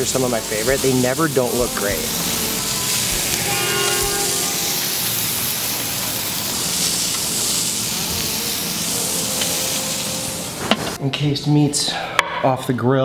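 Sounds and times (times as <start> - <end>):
sausages sizzling on a grill: 0.0 - 11.0.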